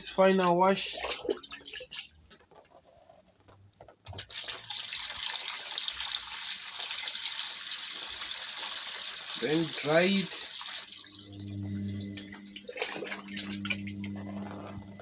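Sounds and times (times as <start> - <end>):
water pouring: 0.4 - 2.5, 4.2 - 15.0.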